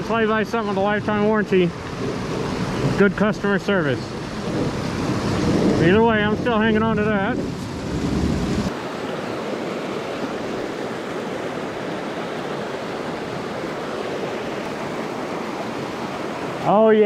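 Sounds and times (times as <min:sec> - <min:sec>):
stream running over rocks: 0:00.0 - 0:08.0, 0:08.6 - 0:17.0.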